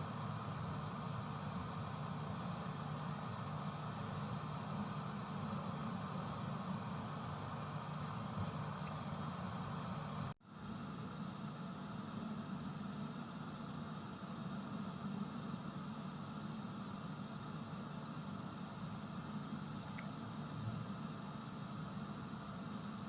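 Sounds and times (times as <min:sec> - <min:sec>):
gas heater hissing: 0:00.0 - 0:23.0.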